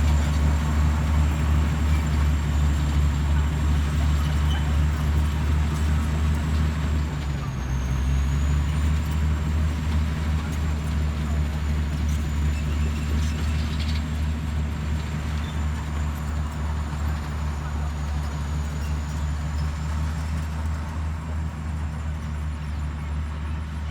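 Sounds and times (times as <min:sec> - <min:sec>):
bulldozer diesel engine drone: 0:00.0 - 0:23.9.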